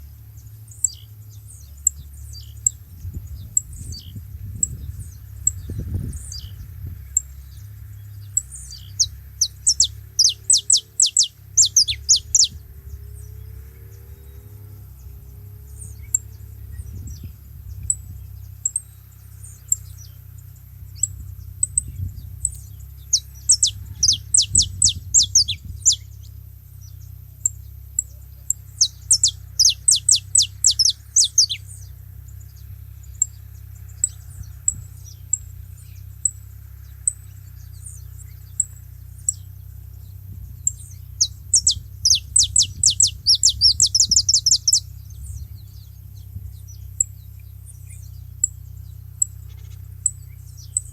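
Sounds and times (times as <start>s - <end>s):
finches chipping: 0.0s - 50.9s.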